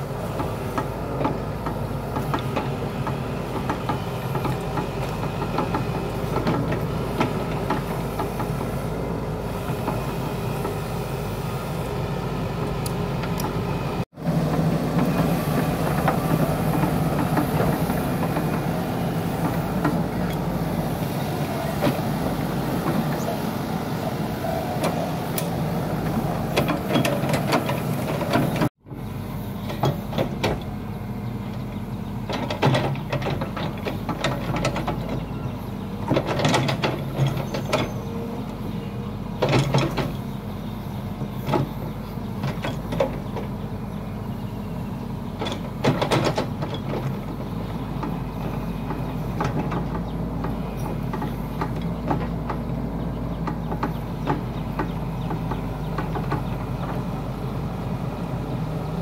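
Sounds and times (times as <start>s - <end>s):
excavator diesel engine running: 0.0s - 59.0s
excavator bucket clanking: 0.4s - 8.8s, 14.3s - 24.0s, 24.7s - 28.7s, 29.6s - 44.3s, 45.0s - 58.1s.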